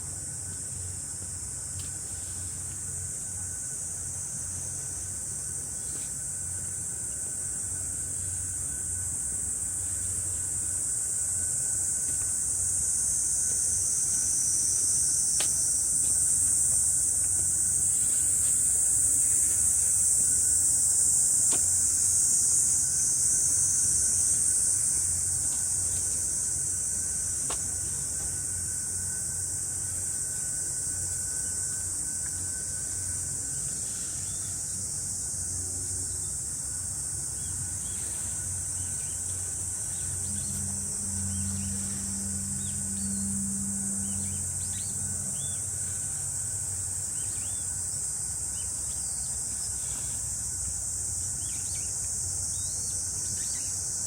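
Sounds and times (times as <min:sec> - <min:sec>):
low hum: 0:00.0 - 0:52.9
cicadas buzzing: 0:00.0 - 0:54.0.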